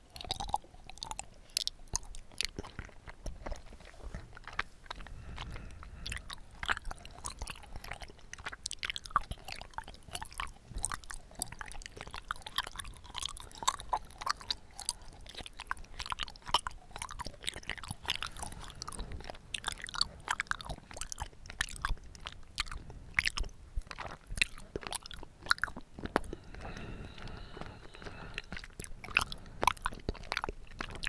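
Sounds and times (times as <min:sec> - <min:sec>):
wet chewing mouth clicks: 0:00.0 - 0:31.0.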